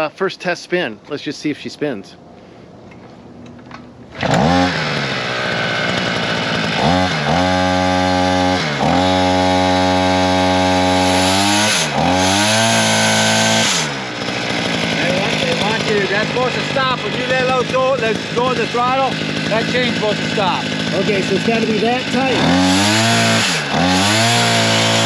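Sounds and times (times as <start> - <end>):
brush cutter two-stroke engine: 4.1 - 25.0.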